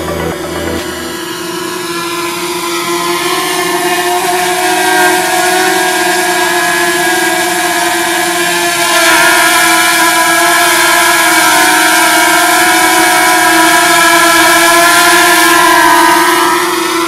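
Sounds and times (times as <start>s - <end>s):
drone propellers whining: 0.0s - 8.2s, 11.2s - 17.0s.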